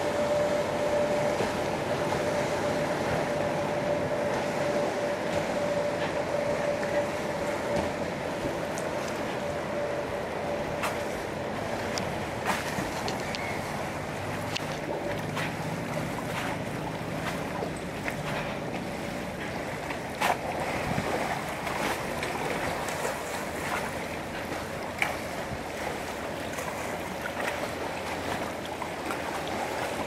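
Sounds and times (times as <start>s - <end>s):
water lapping: 0.0s - 30.0s
wind: 0.0s - 30.0s.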